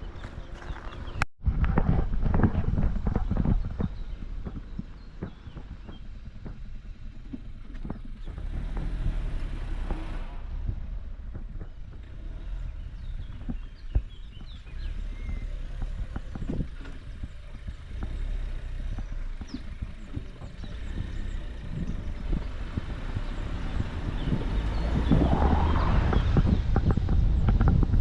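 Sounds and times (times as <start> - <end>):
wind on microphone: 0.0 - 18.1, 18.9 - 28.0.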